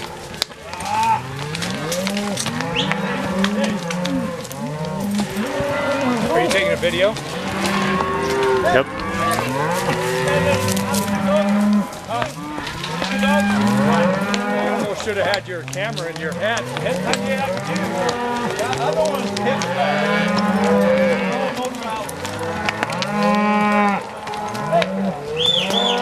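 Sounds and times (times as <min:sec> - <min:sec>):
cows mooing: 0:00.0 - 0:26.0.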